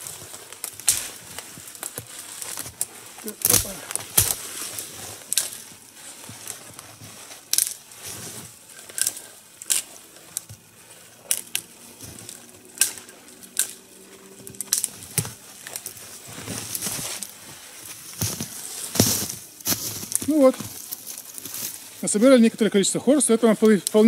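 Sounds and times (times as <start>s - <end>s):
dry branches snapping: 0.0s - 22.1s.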